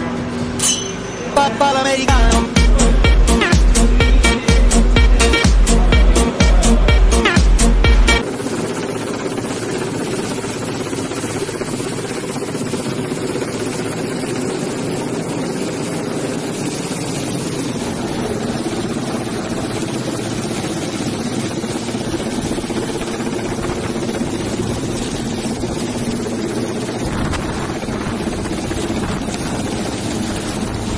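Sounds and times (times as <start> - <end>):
helicopter rotor and engine: 0.0 - 30.9.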